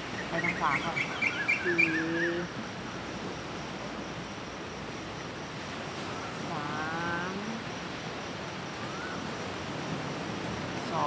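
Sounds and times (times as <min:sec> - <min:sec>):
gentle surf washing on shore: 0:00.0 - 0:11.0.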